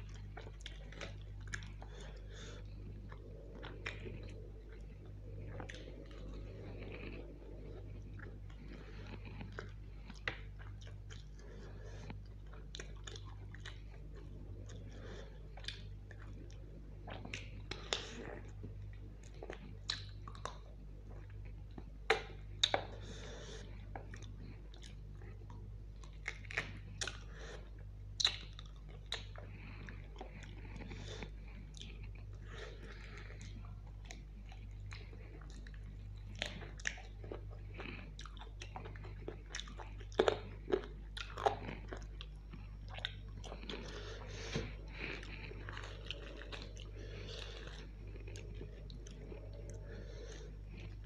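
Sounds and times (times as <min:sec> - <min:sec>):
low hum: 0:00.0 - 0:28.2, 0:28.8 - 0:51.0
wet chewing smacks: 0:00.0 - 0:51.0.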